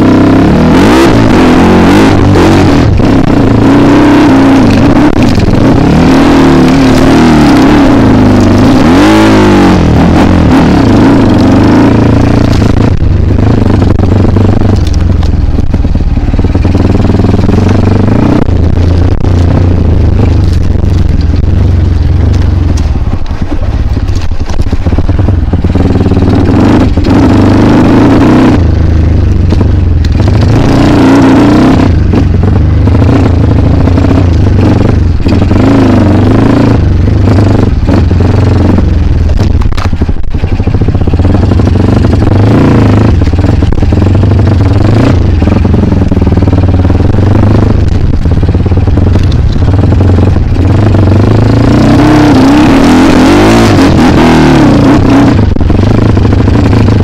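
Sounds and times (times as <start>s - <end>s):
clatter: 0.0s - 57.0s
dirt bike engine revving: 0.0s - 57.0s.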